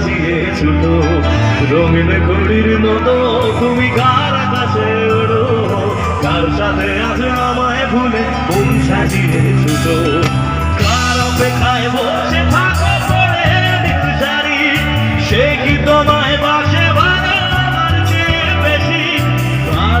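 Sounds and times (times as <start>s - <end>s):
backing music with bass and drums: 0.0s - 20.0s
man singing into microphone: 0.0s - 20.0s.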